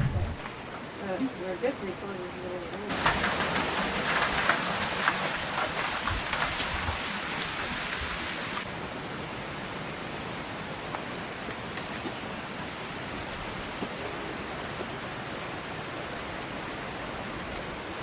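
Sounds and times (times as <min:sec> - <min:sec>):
heavy rain on foliage: 0:00.0 - 0:18.0.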